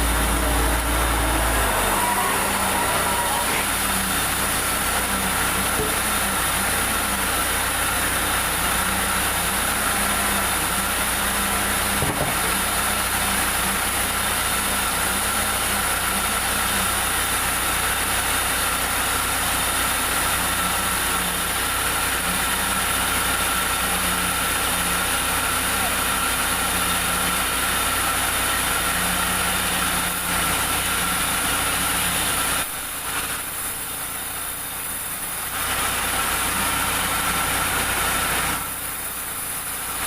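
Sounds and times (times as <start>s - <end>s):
sawmill machinery running: 0.0s - 40.0s.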